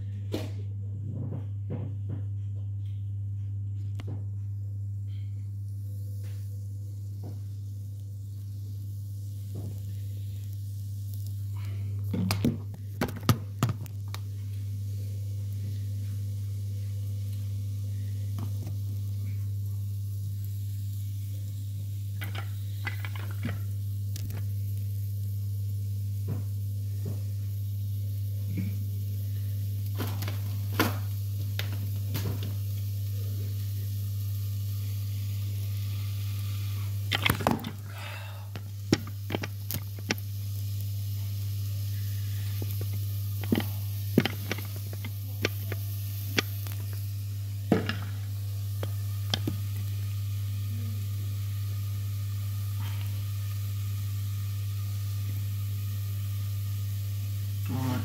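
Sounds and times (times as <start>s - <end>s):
low hum: 0.0s - 58.0s
vegetables sizzling in a pan: 5.1s - 58.0s.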